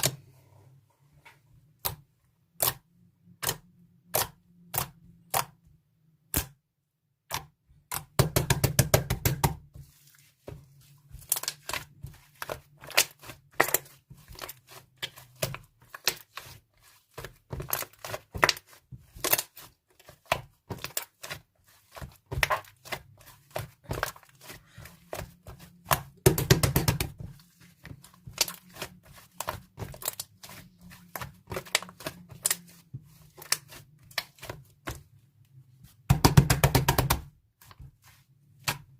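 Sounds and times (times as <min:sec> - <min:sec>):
hands squishing slime: 0:01.8 - 0:05.6, 0:07.2 - 0:38.9.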